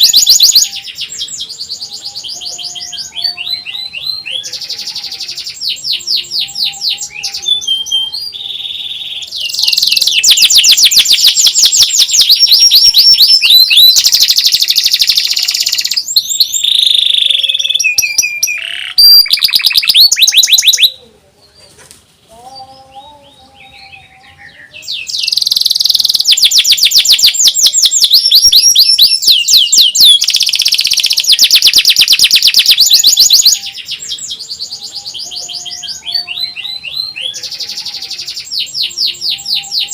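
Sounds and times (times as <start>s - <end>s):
canary singing trills: 0.0s - 21.7s, 22.3s - 39.9s.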